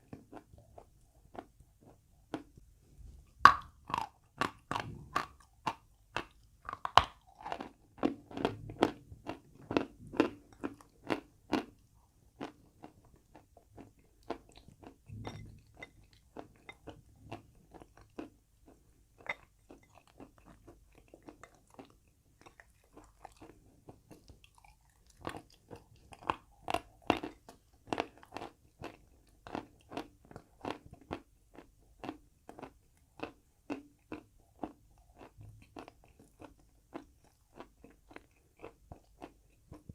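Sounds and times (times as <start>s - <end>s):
chalk crunching being chewed: 3.5s - 39.9s.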